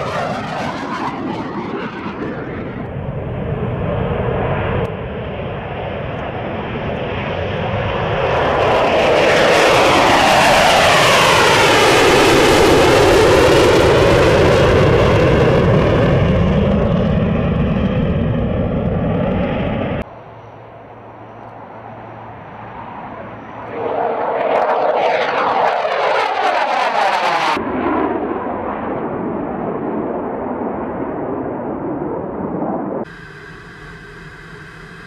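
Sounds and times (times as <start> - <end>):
jet roar passing by: 0.0 - 35.0.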